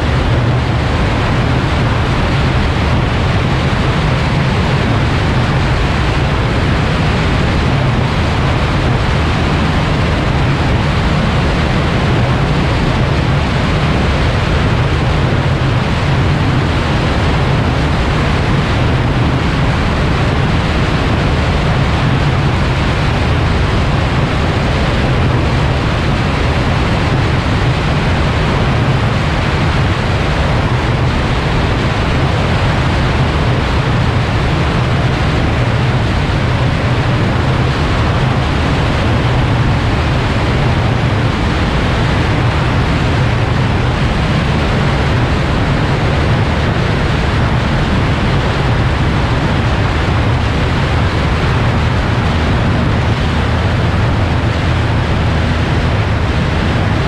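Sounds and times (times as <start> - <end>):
airplane engine and propeller drone: 0.0 - 57.0
wind rush: 0.0 - 57.0.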